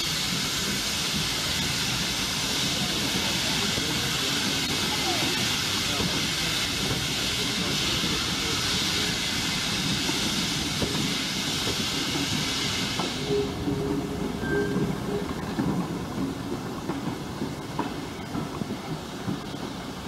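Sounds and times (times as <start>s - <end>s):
carriages rumbling on rails: 0.0s - 20.0s
steam hissing: 0.0s - 20.0s.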